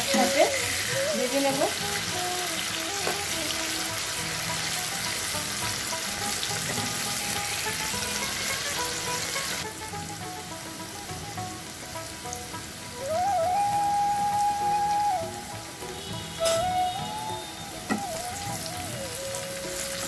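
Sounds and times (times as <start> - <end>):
potatoes sizzling in oil: 0.0 - 20.0.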